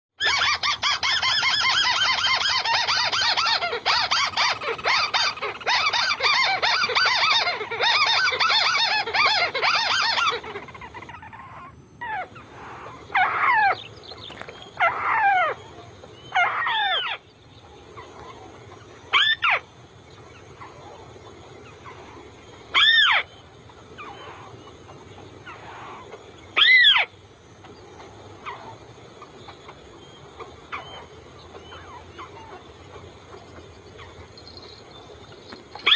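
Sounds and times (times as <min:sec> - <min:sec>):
bird chattering call: 0:00.2 - 0:17.2, 0:17.9 - 0:27.1, 0:28.4 - 0:35.9.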